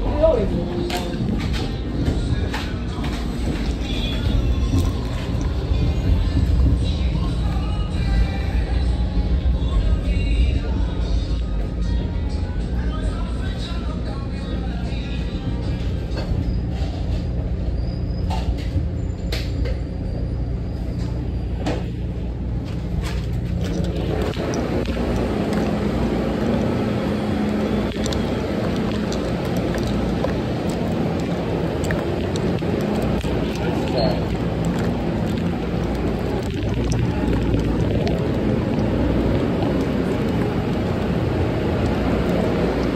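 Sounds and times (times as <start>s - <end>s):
train car rumble: 0.0s - 42.9s.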